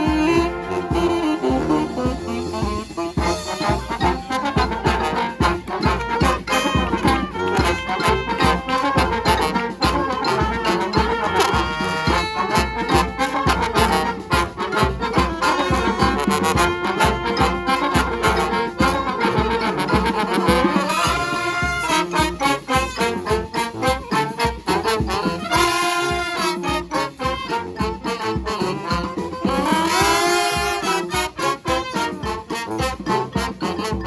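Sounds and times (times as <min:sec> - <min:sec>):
brass band playing: 0:00.0 - 0:34.0
steady drum beat: 0:00.0 - 0:34.0.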